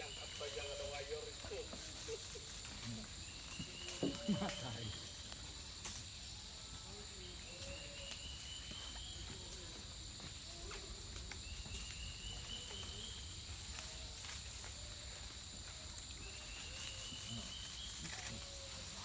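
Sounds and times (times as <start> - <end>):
insects buzzing drone: 0.0 - 19.0.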